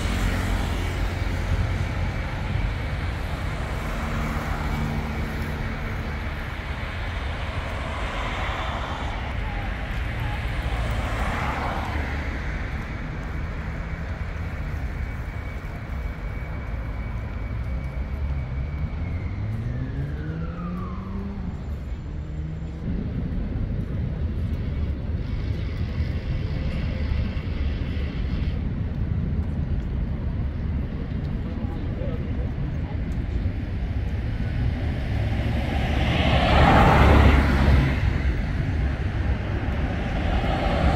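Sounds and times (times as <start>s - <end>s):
city traffic noise: 0.0s - 40.9s
passing vehicle whine: 0.0s - 40.9s.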